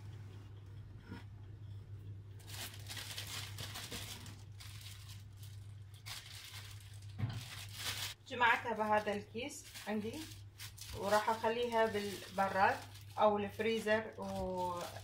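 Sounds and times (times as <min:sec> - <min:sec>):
low steady hum: 0:00.0 - 0:15.0
plastic bag crinkling: 0:02.4 - 0:15.0.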